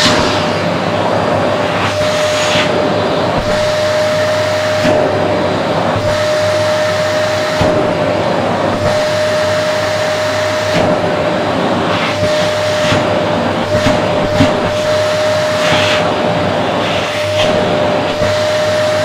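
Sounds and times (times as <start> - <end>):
vacuum cleaner whining: 0.0 - 19.0.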